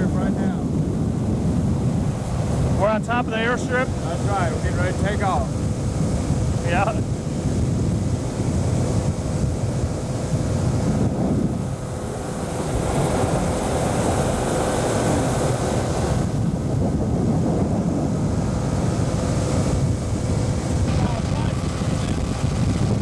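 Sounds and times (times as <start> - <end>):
motorboat engine drone: 0.0 - 23.0
water rushing past hull: 0.0 - 23.0
wind buffeting microphone: 0.0 - 23.0.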